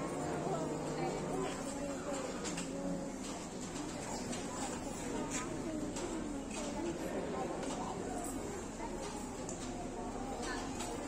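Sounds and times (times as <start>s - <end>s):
faint murmur of voices: 0.0s - 11.0s.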